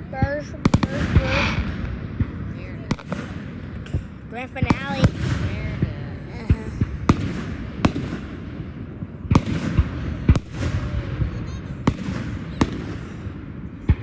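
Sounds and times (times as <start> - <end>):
rumble of fireworks bursting: 0.0 - 14.0
sharp firework bangs: 0.2 - 14.0.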